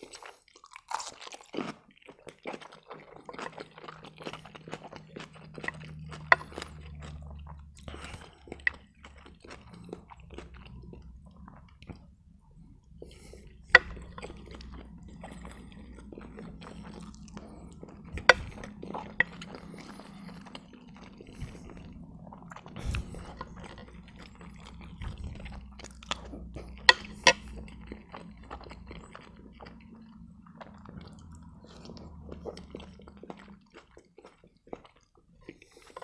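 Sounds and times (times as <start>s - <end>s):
man chewing food: 0.0s - 36.0s
steady low hum: 3.4s - 34.1s.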